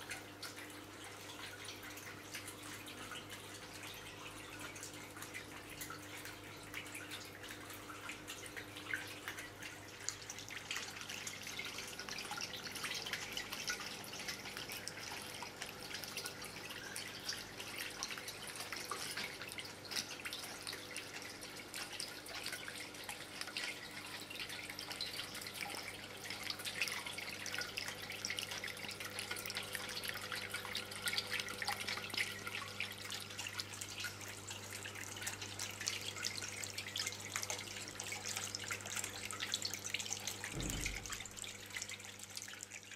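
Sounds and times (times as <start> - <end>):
water trickling into stone basin: 0.0 - 42.9.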